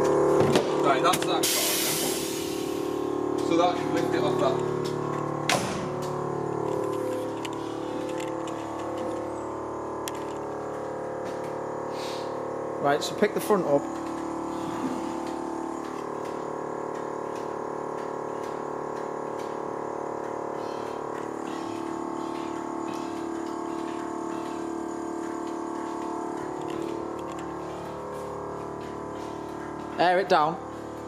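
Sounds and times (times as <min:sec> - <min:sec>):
air compressor running: 0:00.0 - 0:31.0.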